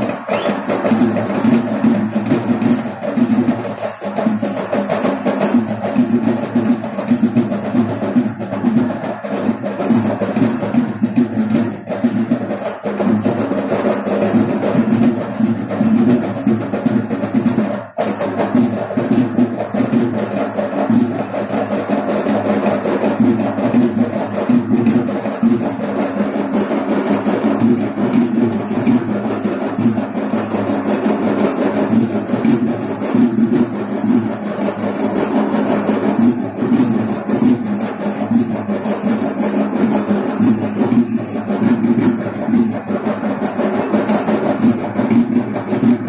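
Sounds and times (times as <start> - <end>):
fast ritual drumming: 0.0 - 46.0.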